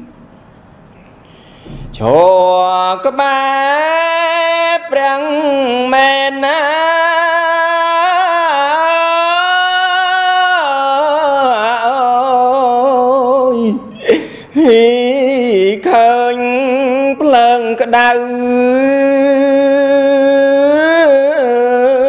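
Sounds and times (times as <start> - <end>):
man chanting: 1.6 - 14.0, 14.6 - 22.0.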